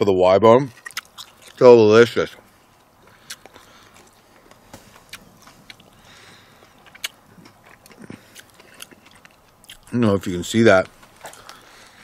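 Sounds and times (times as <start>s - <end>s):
person chewing food: 0.7s - 12.0s.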